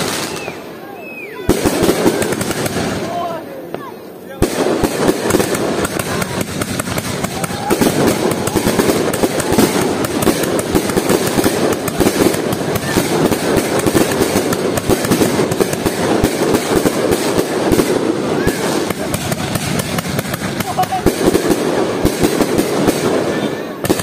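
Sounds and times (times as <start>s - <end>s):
fireworks crackling: 0.0s - 24.0s
sharp firework reports: 0.0s - 24.0s.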